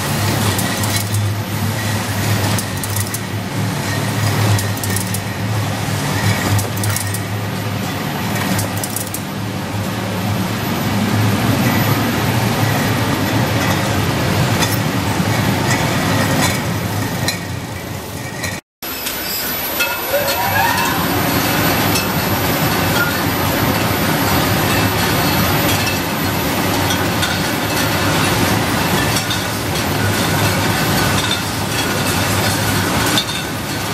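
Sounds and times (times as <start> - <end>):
machinery hum: 0.0 - 33.9.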